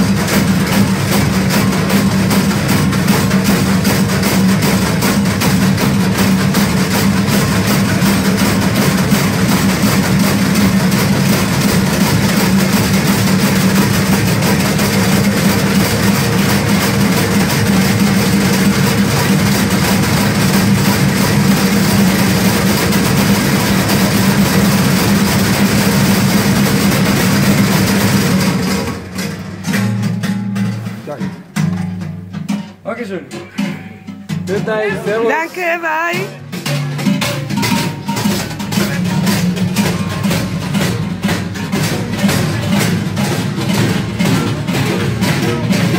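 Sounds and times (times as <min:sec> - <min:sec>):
large metal bells clanging: 0:00.0 - 0:31.5, 0:33.3 - 0:45.9.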